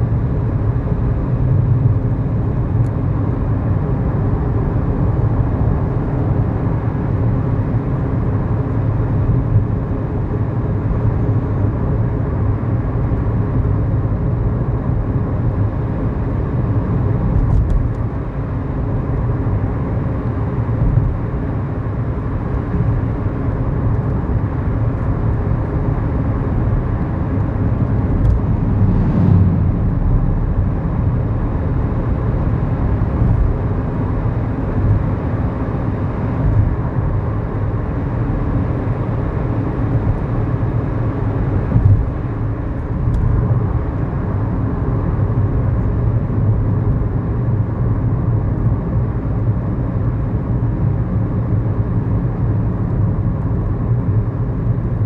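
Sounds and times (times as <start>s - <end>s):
car engine hum inside cabin: 0.0s - 55.0s
road noise: 0.0s - 55.0s.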